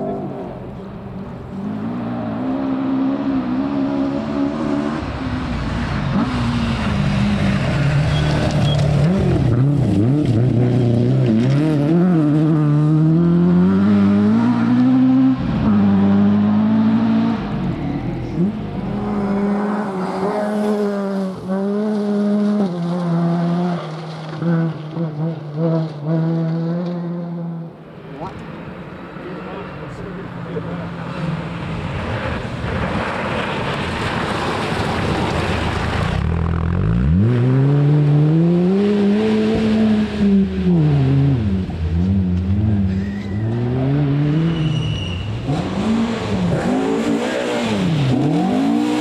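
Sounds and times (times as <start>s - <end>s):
rally car engine at high revs: 0.0s - 28.6s, 29.2s - 49.0s.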